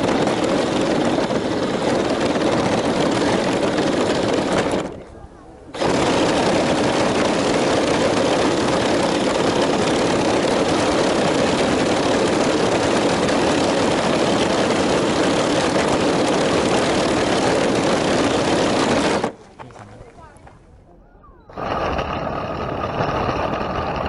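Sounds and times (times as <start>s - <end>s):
toy vehicle motors running: 0.0s - 5.1s, 5.7s - 19.4s, 21.5s - 24.0s.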